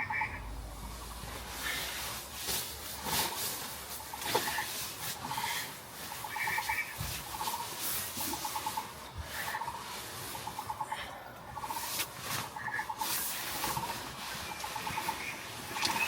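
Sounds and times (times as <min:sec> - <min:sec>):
frogs calling in chorus: 0:00.0 - 0:01.8, 0:03.1 - 0:16.0
steady background hiss: 0:00.0 - 0:16.0.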